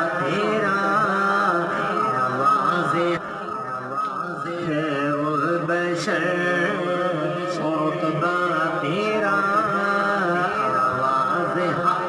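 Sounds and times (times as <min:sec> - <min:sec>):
man chanting slow melody: 0:00.0 - 0:12.0.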